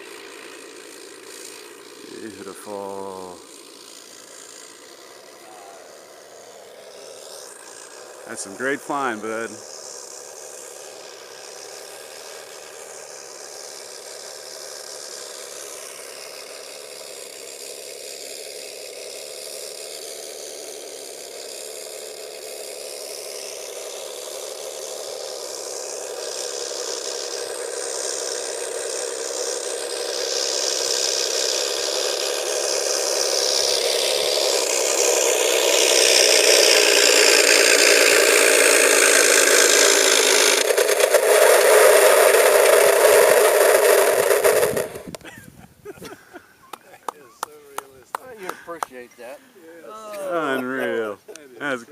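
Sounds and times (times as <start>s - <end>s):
simulated engine idle from speaker: 0.0s - 45.4s.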